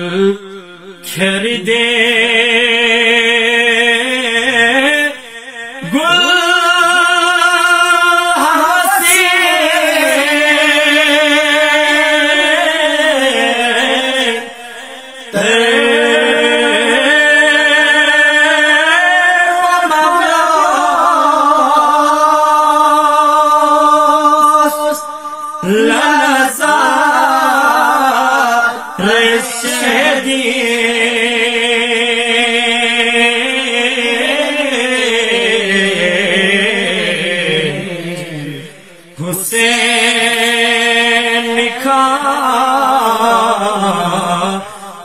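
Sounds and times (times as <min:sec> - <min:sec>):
men chanting unaccompanied: 0:01.0 - 0:45.0.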